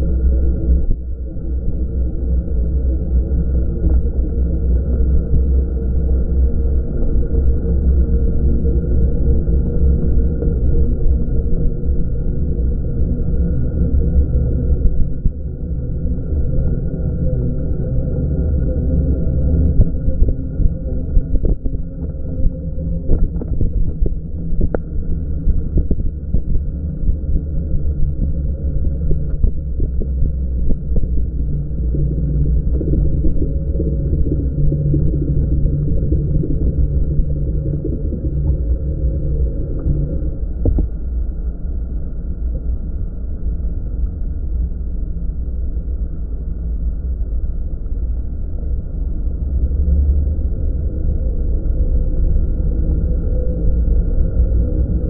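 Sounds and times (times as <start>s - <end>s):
wind rumble on camera: 0.0s - 55.0s.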